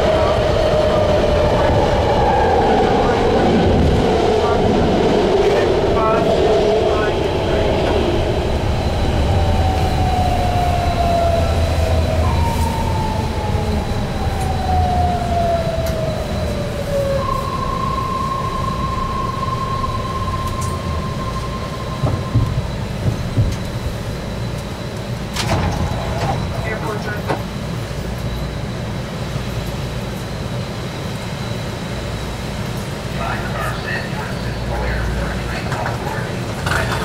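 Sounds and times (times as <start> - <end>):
train propulsion whine: 0.0 - 37.0
wheels rumbling on rails: 0.0 - 37.0.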